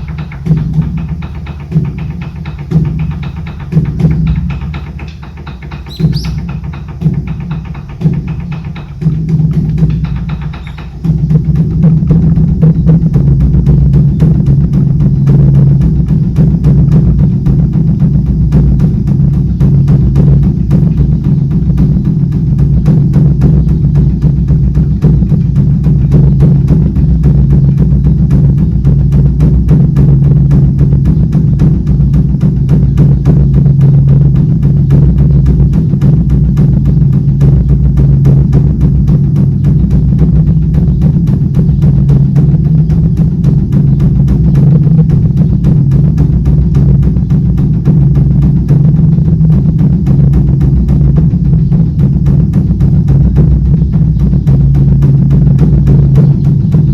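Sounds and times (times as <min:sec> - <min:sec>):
drum beaten with sticks: 0:00.0 - 0:56.9.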